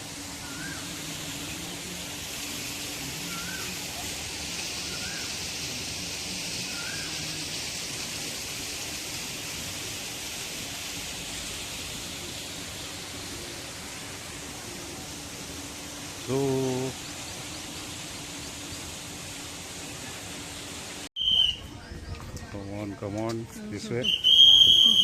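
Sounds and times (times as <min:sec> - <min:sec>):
steady outdoor hiss: 0:00.0 - 0:25.0.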